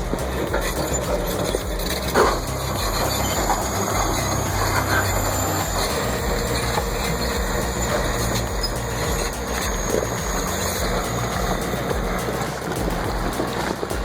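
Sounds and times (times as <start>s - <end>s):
bulldozer diesel engine rumbling: 0.0s - 14.0s.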